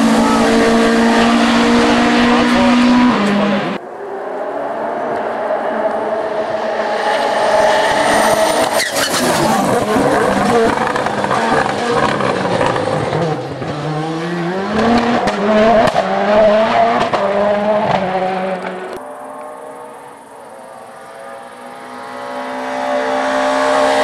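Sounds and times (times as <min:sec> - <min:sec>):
race car engine at high revs: 0:00.0 - 0:24.0.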